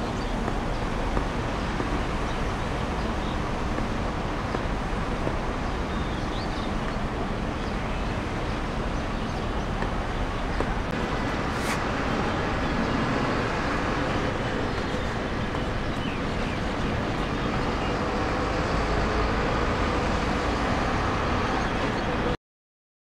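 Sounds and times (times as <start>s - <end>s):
busy airport rumble: 0.0s - 22.4s.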